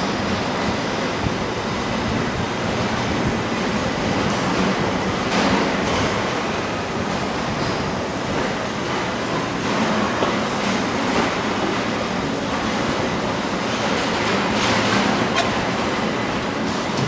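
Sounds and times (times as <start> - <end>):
factory machinery din: 0.0 - 17.0.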